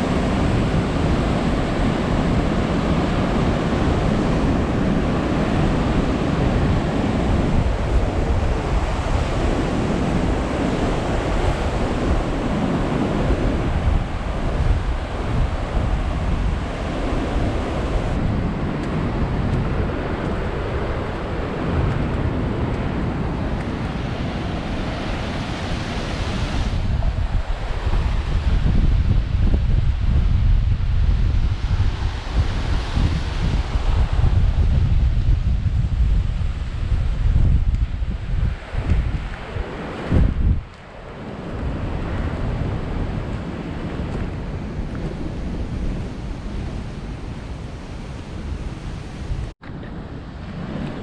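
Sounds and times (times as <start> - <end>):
surf breaking against cliffs: 0.0 - 51.0
wind buffeting microphone: 0.0 - 51.0.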